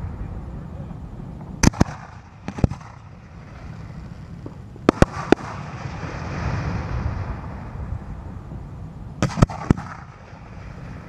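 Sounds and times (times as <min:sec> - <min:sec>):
fireworks bangs: 0:01.4 - 0:11.0.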